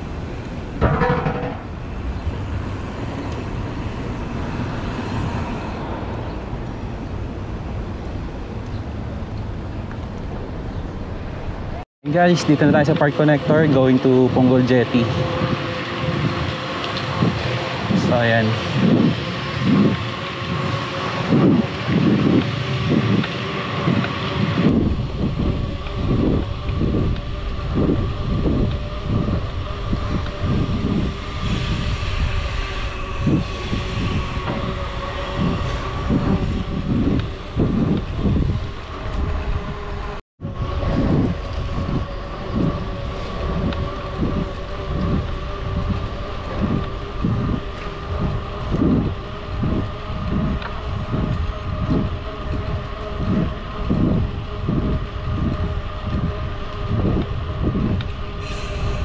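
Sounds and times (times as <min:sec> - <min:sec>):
hum of moving bike: 0:00.0 - 0:59.0
wind buffeting microphone: 0:00.0 - 0:59.0.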